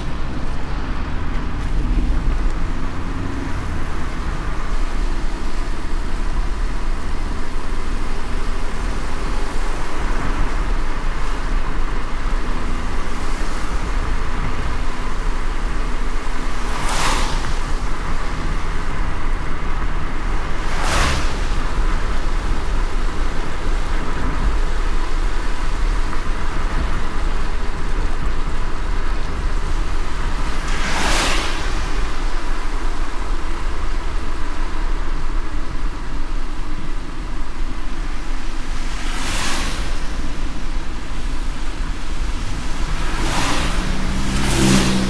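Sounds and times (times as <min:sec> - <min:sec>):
car road and engine rumble: 0:00.0 - 0:45.0
rain and wet tyres hissing: 0:00.0 - 0:45.0.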